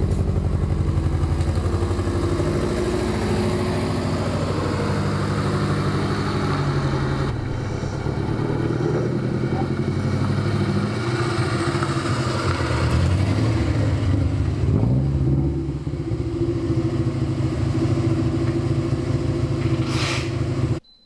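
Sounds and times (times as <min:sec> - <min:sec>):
car engine running: 0:00.0 - 0:19.8.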